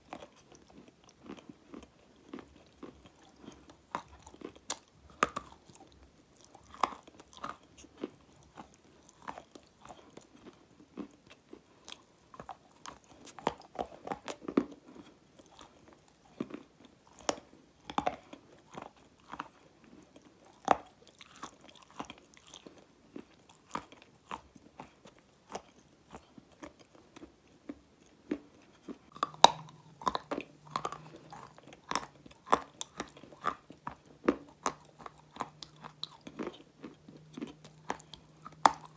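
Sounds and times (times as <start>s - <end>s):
clay being chewed with crunches: 0.0s - 38.9s.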